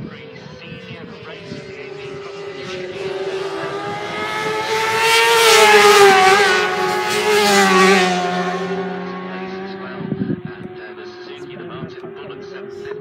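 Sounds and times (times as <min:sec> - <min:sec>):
racing motorcycles passing: 0:00.1 - 0:13.0.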